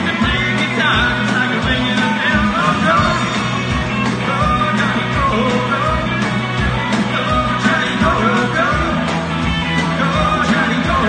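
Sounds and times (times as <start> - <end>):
blues-rock band playing: 0.0 - 11.0.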